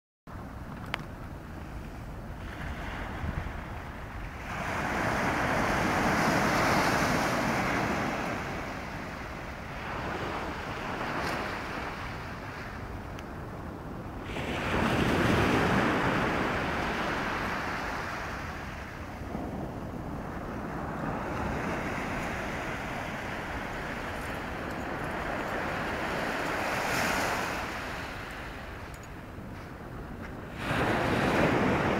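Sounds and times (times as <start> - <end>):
wind on microphone: 0.3 - 31.9
sea waves breaking on shore: 1.5 - 31.9.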